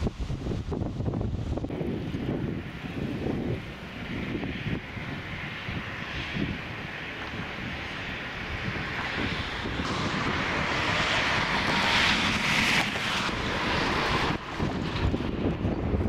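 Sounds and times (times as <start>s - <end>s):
wind rumbling on microphone: 0.0s - 16.0s
car passing: 1.7s - 16.0s.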